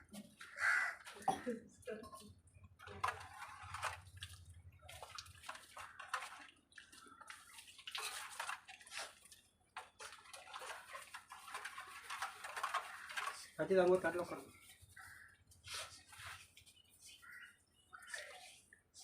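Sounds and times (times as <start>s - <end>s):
water sloshing in a pot: 0.1s - 19.0s.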